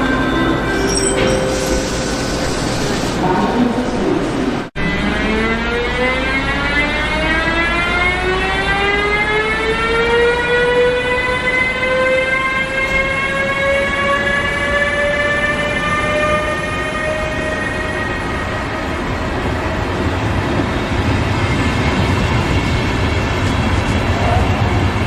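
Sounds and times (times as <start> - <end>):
electric locomotive whining: 0.0 - 25.0
train rumbling on rails: 0.0 - 25.0.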